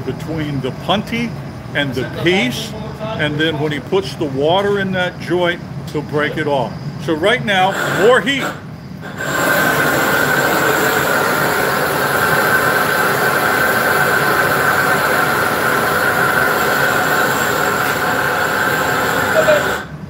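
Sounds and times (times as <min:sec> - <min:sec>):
gas burner flame rushing: 0:00.0 - 0:20.0.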